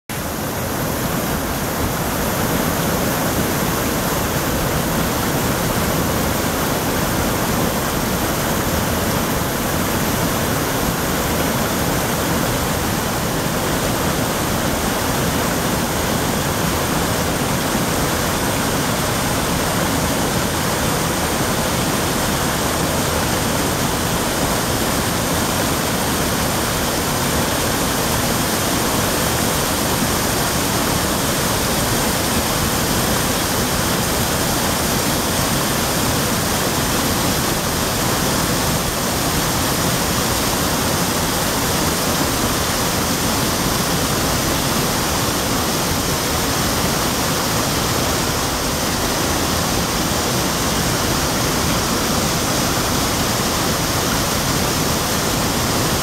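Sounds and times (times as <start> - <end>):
waterfall and stream rushing: 0.1 - 56.0.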